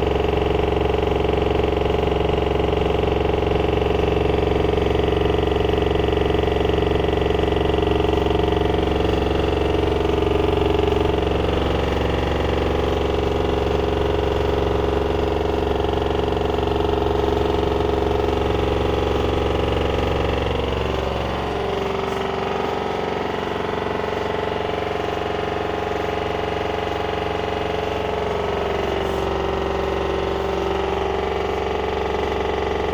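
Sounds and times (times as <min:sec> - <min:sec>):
washing machine spinning: 0:00.0 - 0:32.9.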